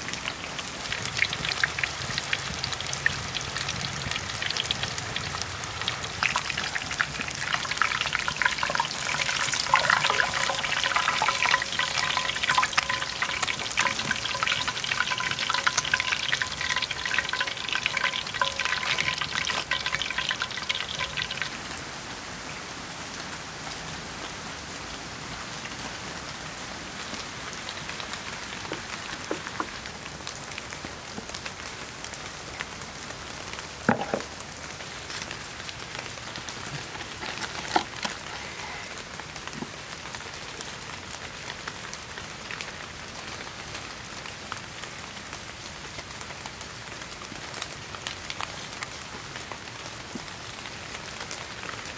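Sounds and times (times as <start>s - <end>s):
food deep-frying in oil: 0.0s - 22.0s, 27.0s - 51.9s
rain pattering: 0.0s - 51.9s.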